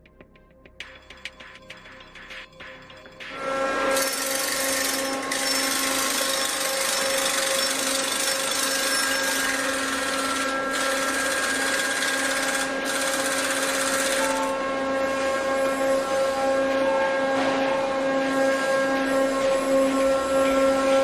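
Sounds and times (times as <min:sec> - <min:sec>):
steady mechanical drone: 0:00.0 - 0:21.0.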